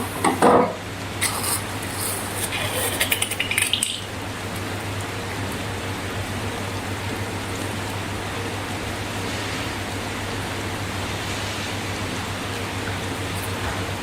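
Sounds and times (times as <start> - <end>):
steady hiss and low hum: 0.0 - 14.0.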